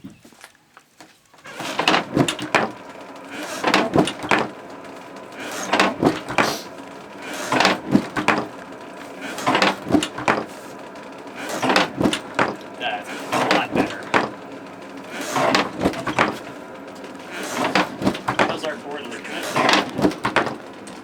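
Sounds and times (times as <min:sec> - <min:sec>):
bellows knocking and creaking: 0:01.4 - 0:21.0.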